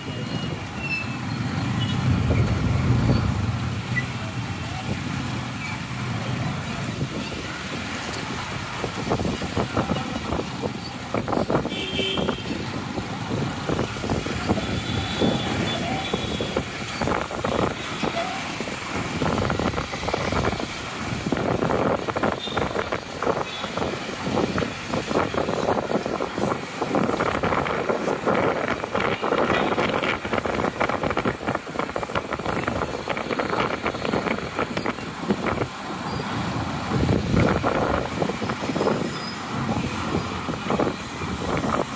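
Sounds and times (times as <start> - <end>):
motorcycle and car engines: 0.0 - 41.9.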